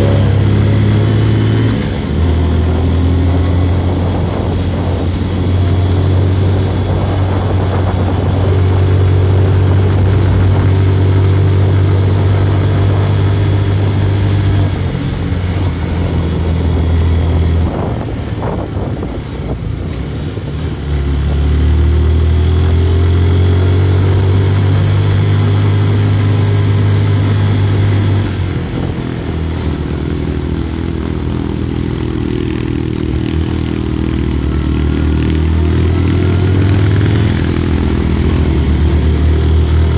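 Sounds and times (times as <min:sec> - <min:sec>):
road and wind noise: 0:00.0 - 0:39.9
small motorcycle engine running: 0:00.0 - 0:39.9.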